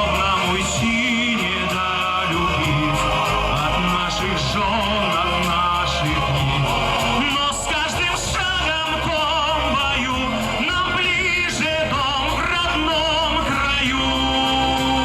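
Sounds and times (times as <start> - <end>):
band playing: 0.0 - 15.0
person singing with vibrato: 0.0 - 15.0.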